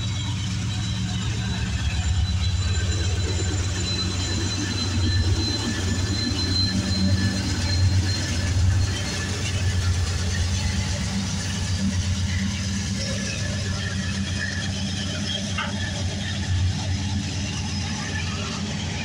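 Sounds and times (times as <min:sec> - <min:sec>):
locomotive engine drone: 0:00.0 - 0:19.0
thin high whine: 0:00.0 - 0:19.0
wheel and rail rumble: 0:00.0 - 0:19.0.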